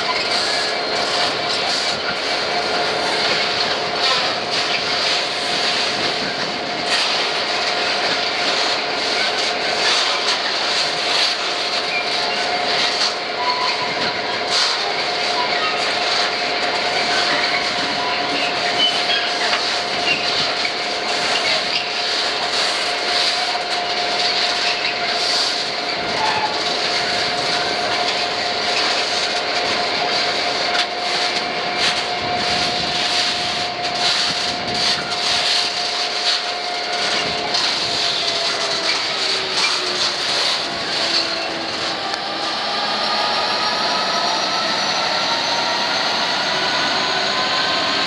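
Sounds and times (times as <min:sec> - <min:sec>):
freight train rumbling past: 0:00.0 - 0:48.0
train whining tone: 0:00.0 - 0:48.0.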